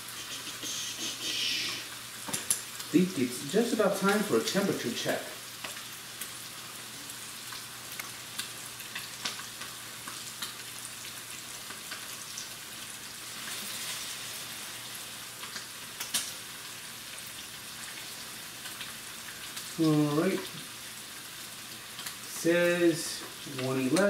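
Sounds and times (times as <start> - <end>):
steak sizzling in a pan: 0.0 - 24.0.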